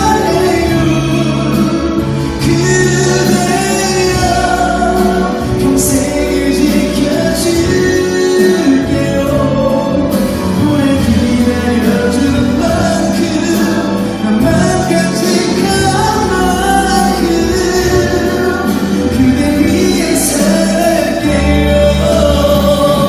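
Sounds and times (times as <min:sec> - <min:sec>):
backing track: 0:00.0 - 0:23.0
man singing ballad: 0:00.0 - 0:23.0.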